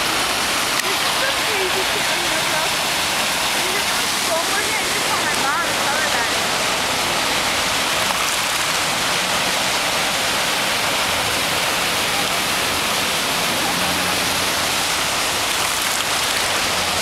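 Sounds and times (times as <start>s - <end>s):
cars splashing through water: 0.0s - 17.0s
floodwater rushing: 0.0s - 17.0s.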